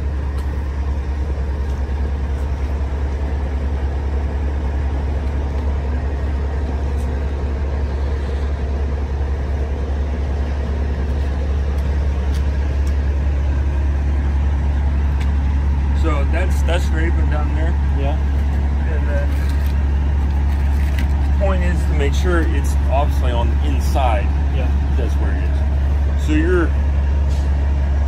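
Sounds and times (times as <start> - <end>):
truck diesel engine idling: 0.0 - 28.0.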